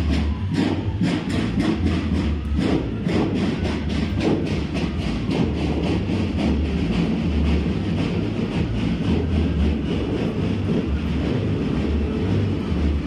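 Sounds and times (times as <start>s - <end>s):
bass drum beat: 0.0s - 13.0s
snare drum strokes: 0.0s - 13.0s.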